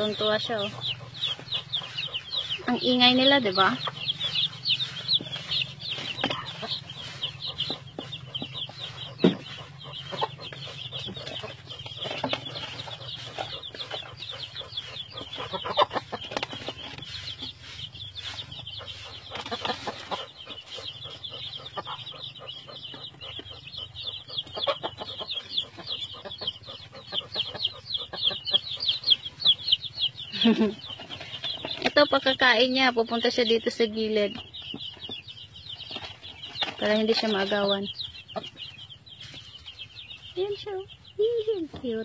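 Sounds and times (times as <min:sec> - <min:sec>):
chicks peeping: 0:00.0 - 0:42.0
pecking taps and rustles in straw: 0:00.0 - 0:42.0.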